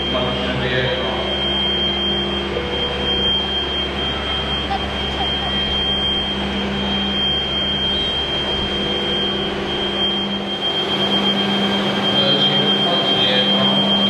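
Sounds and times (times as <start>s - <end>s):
high-pitched whine: 0.0s - 14.0s
machinery hum: 0.0s - 14.0s.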